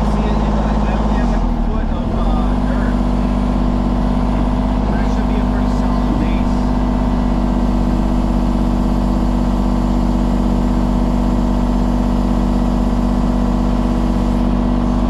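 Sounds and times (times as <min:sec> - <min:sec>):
earthmoving machine engine humming: 0:00.0 - 0:15.0.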